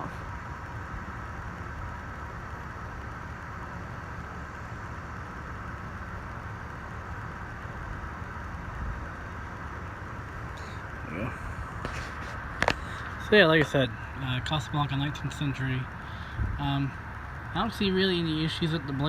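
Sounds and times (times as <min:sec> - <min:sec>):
ceiling fan whirring: 0:00.0 - 0:19.0.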